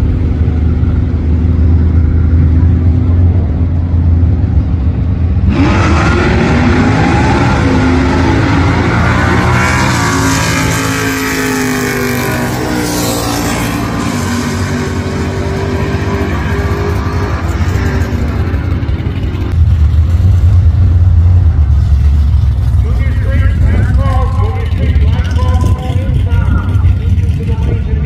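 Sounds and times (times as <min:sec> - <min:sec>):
engines accelerating at full throttle: 0:00.0 - 0:28.0
muscle car engines rumbling: 0:00.0 - 0:28.0.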